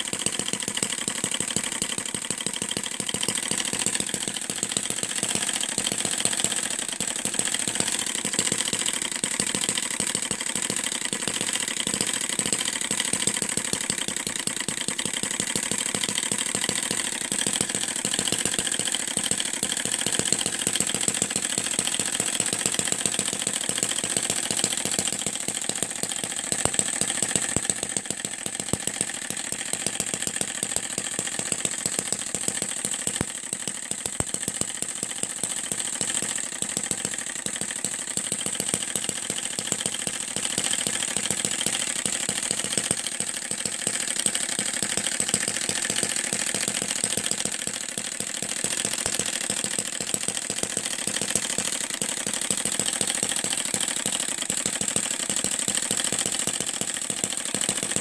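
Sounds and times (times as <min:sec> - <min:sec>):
miniature engine running: 0:00.0 - 0:58.0.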